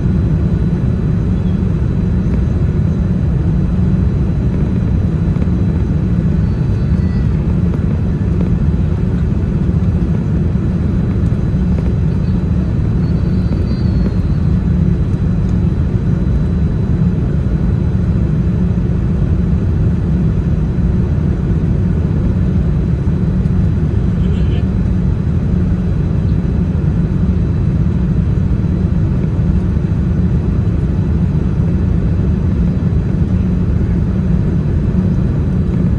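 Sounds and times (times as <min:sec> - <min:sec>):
airliner engines droning in flight: 0:00.0 - 0:35.9.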